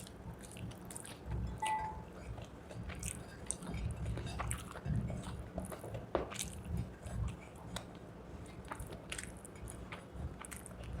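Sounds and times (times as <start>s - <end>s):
close chewing with mouth smacks: 0.0s - 1.6s, 2.2s - 11.0s.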